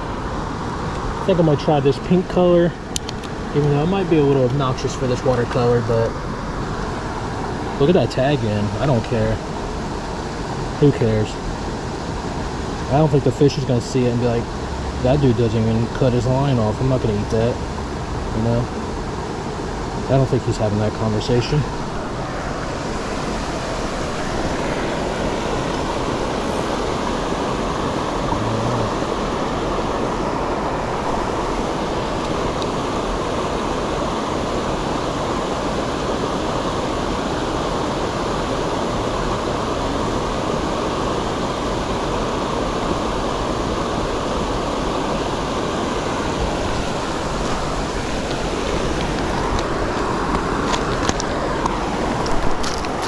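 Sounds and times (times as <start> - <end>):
fast-flowing creek water: 0.0 - 53.0.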